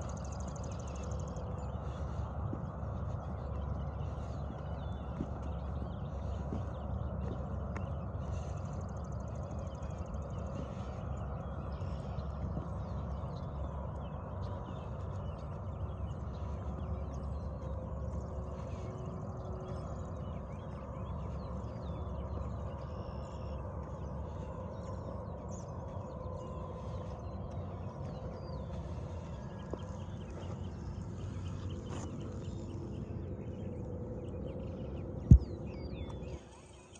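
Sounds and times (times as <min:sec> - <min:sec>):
footsteps outdoors: 0:00.0 - 0:36.9
wind rumble on microphone: 0:00.0 - 0:36.9.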